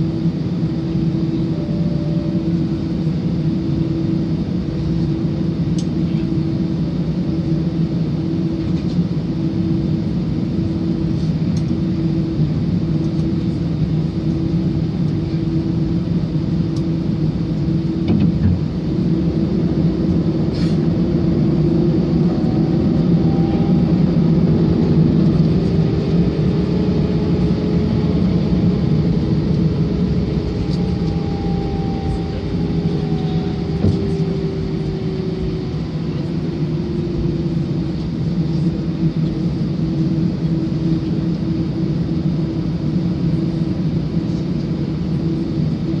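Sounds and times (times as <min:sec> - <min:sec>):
jet engines rumbling in cabin: 0:00.0 - 0:46.0.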